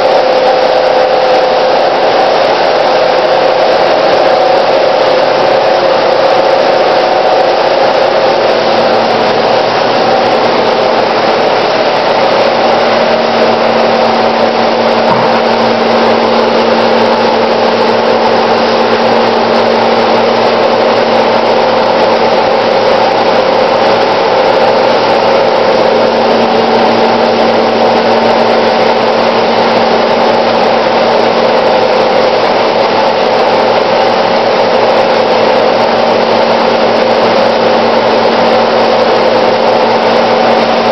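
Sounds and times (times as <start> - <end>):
machine hum with whine and hiss: 0.0 - 40.9.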